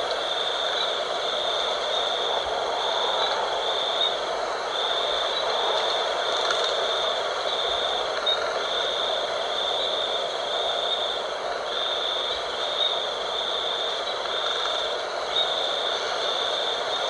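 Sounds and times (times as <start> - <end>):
high insect trill: 0.0 - 17.0
wind blowing: 0.0 - 17.0.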